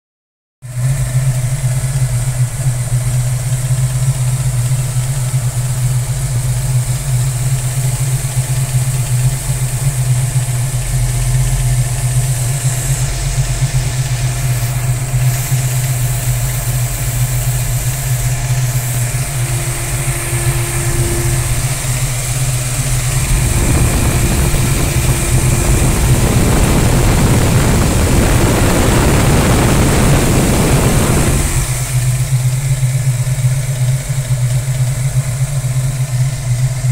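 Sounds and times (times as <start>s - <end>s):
car engine idling: 0.6s - 36.9s
engine tapping noise: 0.6s - 36.9s.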